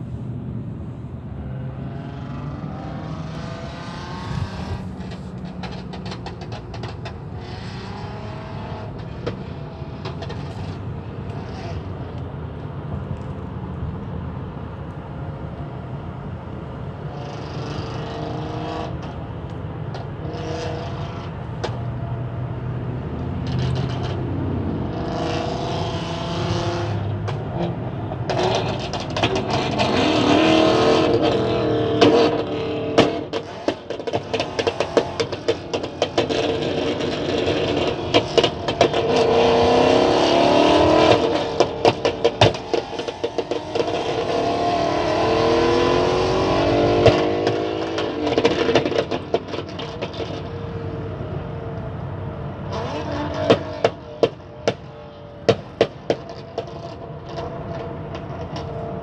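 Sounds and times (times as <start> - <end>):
cars passing with whining tones: 0.0 - 59.0.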